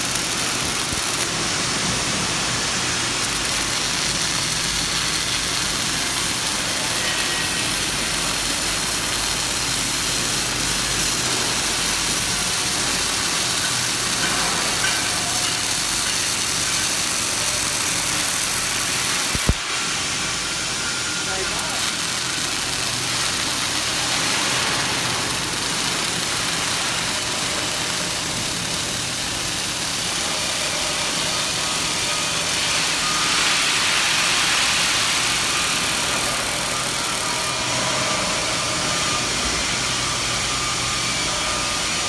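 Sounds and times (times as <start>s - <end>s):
welding machine hum with hiss: 0.0s - 42.0s.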